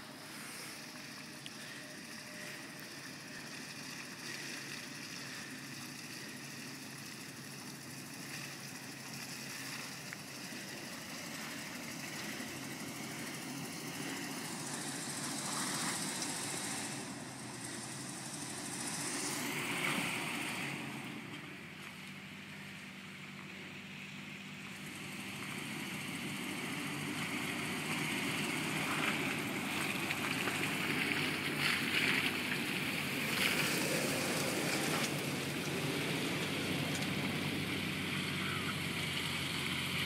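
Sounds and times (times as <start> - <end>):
suv engine running: 0.0 - 40.0.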